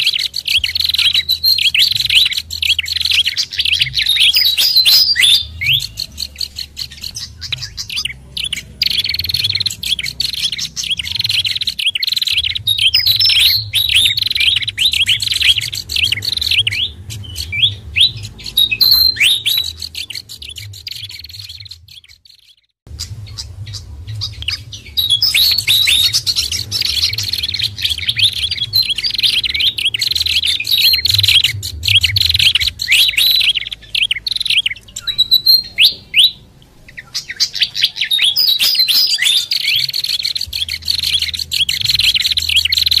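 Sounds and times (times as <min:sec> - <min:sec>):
low hum: 0:00.0 - 0:22.0, 0:22.9 - 0:36.9
songbirds chirping and twittering: 0:00.0 - 0:43.0.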